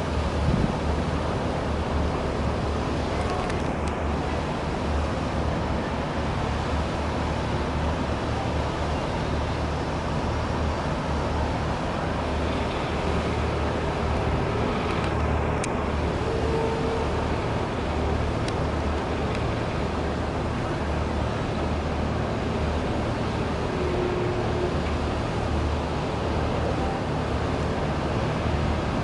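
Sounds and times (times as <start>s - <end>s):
churning water rush: 0.0s - 29.0s
low engine rumble: 0.0s - 29.0s.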